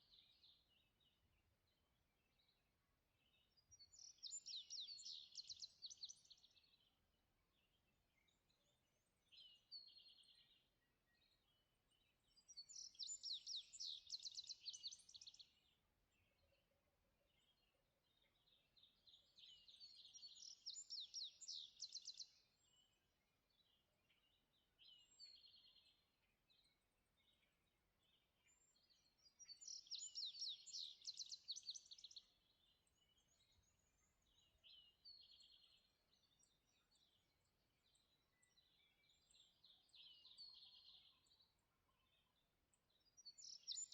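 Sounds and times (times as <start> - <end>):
songbird trilled song: 3.2 - 7.0, 8.2 - 16.4, 17.3 - 43.9.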